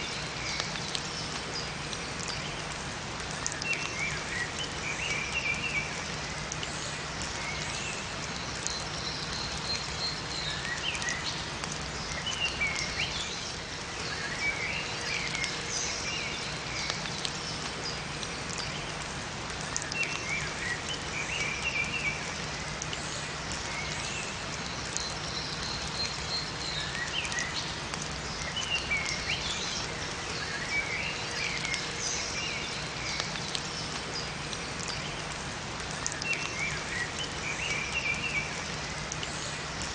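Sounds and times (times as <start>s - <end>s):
songbirds chirping: 0.0s - 39.9s
steady rain in forest: 0.0s - 39.9s.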